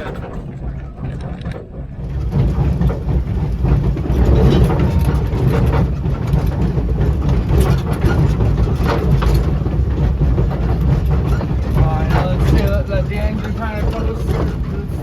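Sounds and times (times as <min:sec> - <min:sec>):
steam locomotive rumbling: 0:00.0 - 0:15.0.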